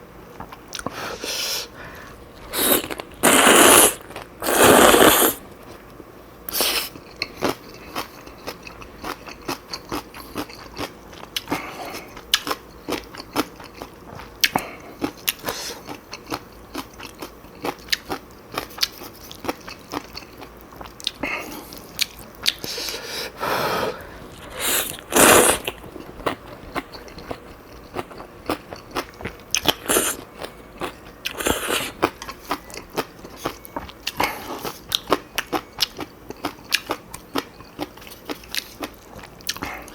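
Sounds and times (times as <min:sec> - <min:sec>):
person chewing and crunching: 0:06.5 - 0:23.0, 0:24.3 - 0:39.9.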